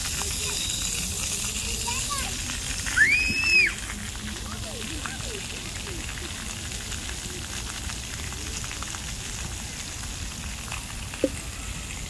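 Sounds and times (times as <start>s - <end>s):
fountain jets spraying water: 0.0s - 12.0s.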